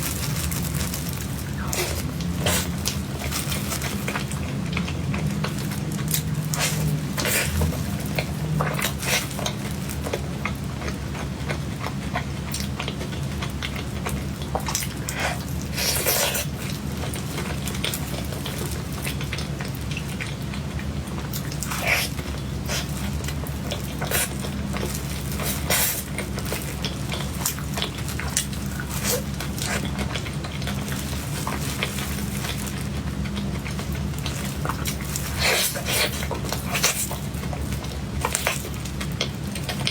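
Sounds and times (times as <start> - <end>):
steady low hum: 0.0 - 39.9
wet chewing and mouth smacks: 0.0 - 39.9.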